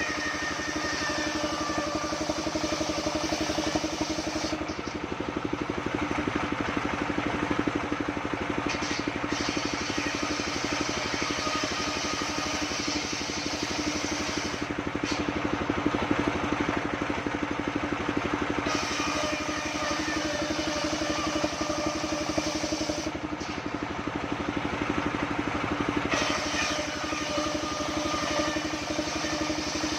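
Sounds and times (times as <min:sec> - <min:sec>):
bandsaw machine running: 0:00.0 - 0:29.9.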